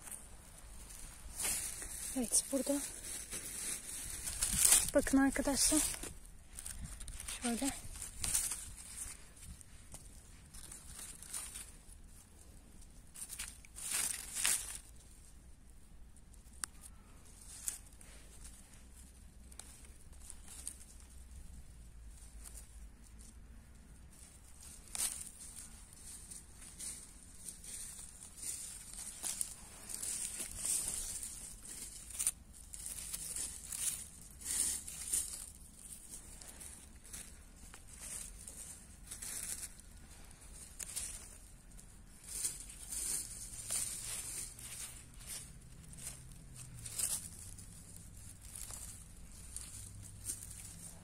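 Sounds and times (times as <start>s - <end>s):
leaves rustling and tearing: 0.0s - 15.5s, 16.3s - 51.0s.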